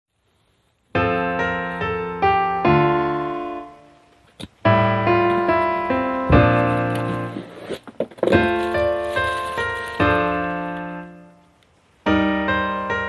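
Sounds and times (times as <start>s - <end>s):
piano chords ringing: 0.9s - 13.0s.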